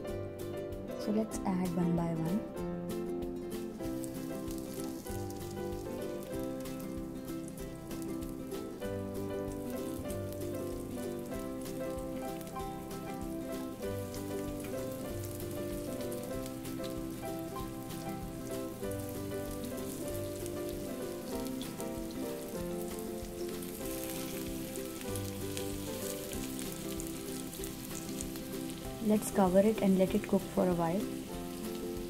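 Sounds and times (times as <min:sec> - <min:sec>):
background music with held notes: 0:00.0 - 0:32.0
fish sizzling in oil: 0:03.2 - 0:32.0.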